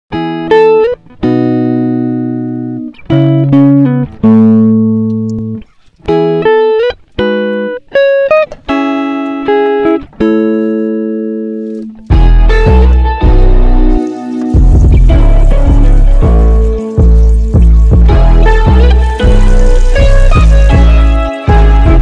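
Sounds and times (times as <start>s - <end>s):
plucked guitar: 0.1s - 22.0s.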